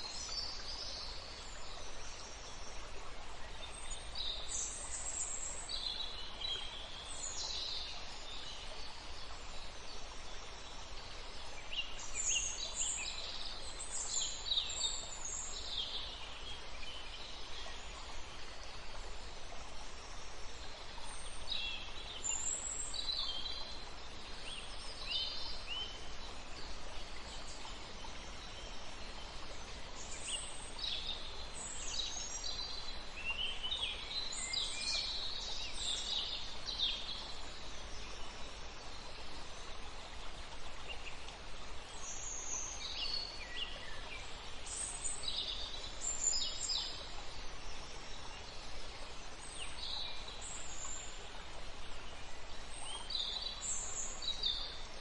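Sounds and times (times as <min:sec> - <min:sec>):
steady outdoor background hiss: 0:00.0 - 0:55.0.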